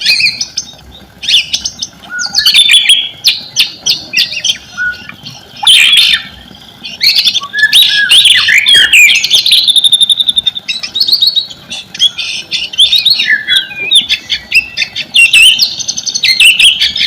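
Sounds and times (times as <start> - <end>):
bird singing whistles and chatter: 0.0 - 17.0.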